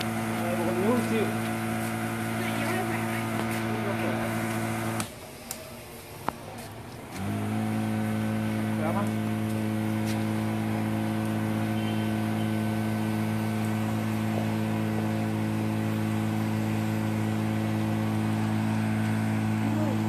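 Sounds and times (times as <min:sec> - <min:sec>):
brush cutter engine running: 0:00.0 - 0:05.2, 0:07.0 - 0:20.0.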